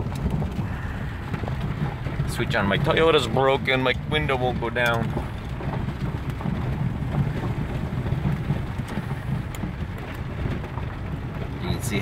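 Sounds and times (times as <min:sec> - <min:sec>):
car engine and road noise: 0:00.0 - 0:12.0
rain on windshield: 0:00.0 - 0:12.0.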